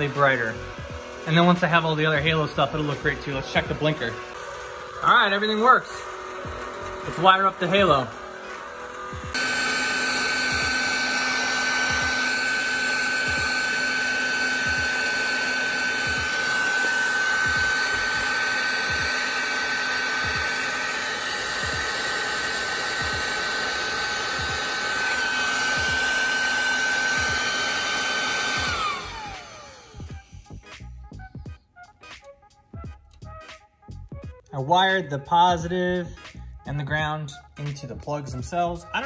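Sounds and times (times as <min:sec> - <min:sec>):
heat gun blowing with whine: 0:00.0 - 0:31.6.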